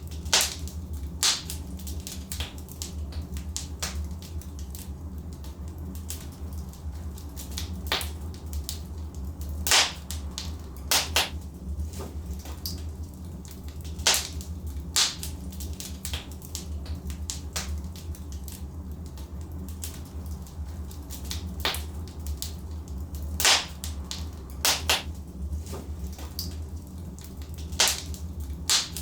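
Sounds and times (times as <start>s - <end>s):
fire low rumble: 0.0s - 29.0s
logs crackling and popping: 0.0s - 29.0s.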